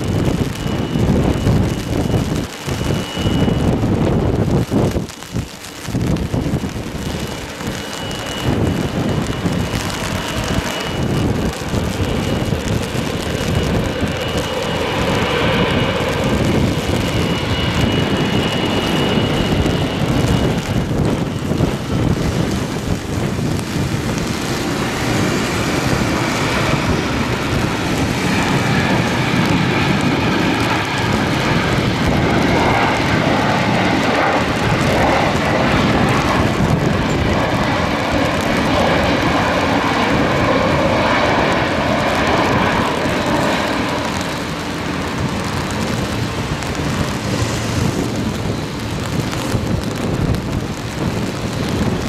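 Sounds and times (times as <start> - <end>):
jet engines whining: 0.0 - 52.0
rain hiss: 0.0 - 52.0.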